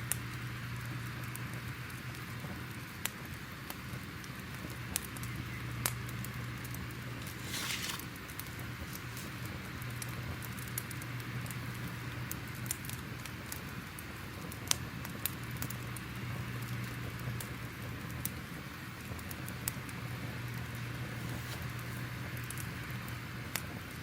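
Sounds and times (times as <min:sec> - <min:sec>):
fire crackling and popping: 0:00.1 - 0:24.0.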